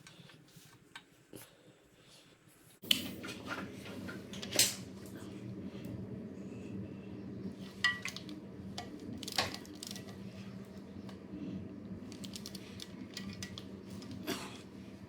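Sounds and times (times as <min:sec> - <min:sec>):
steady low hum: 0:01.3 - 0:15.0.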